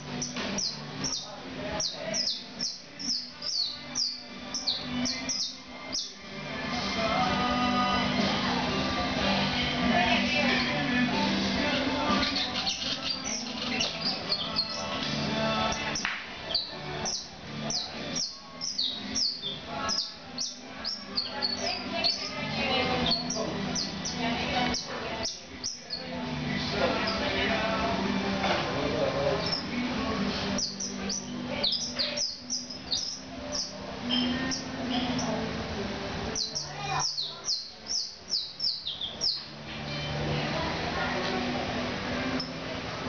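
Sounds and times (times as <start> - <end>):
canary chirping: 0.0 - 28.2, 29.0 - 40.4, 42.2 - 42.8
background music: 0.0 - 43.0.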